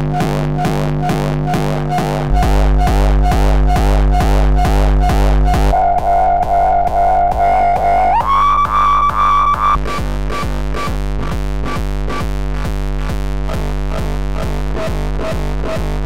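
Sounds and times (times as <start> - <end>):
distorted kick drum loop: 0.0 - 16.0.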